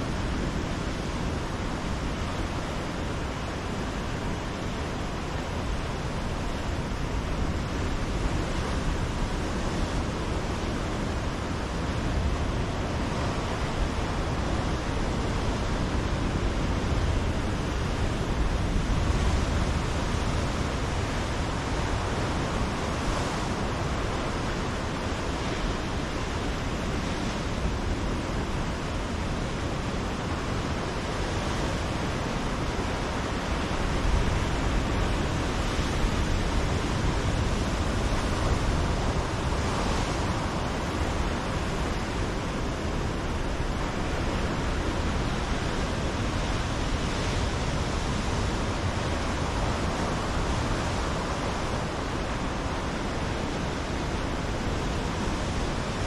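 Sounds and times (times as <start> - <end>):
ocean surf breaking on rocks: 0.0 - 56.0.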